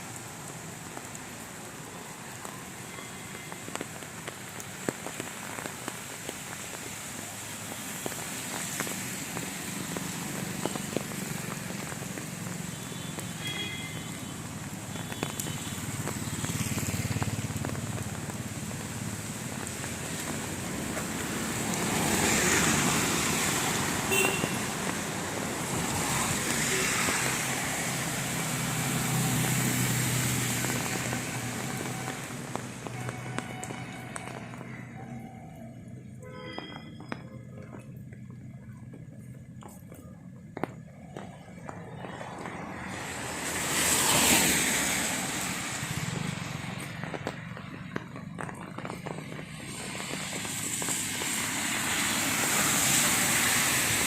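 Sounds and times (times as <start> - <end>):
rain drips ticking: 0.0 - 54.0
vehicles passing on wet road: 0.0 - 54.0.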